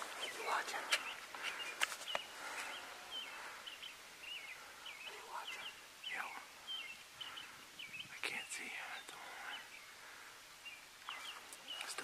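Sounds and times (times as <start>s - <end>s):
field ambience: 0.0s - 12.0s
small birds chirping: 0.0s - 12.0s.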